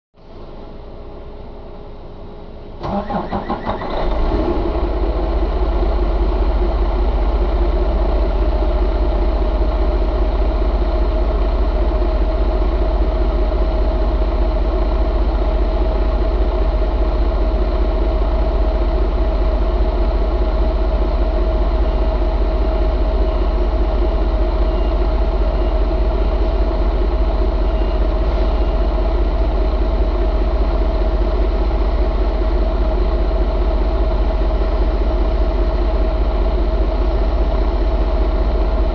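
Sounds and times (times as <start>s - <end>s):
diesel engine idling: 0.2s - 38.9s.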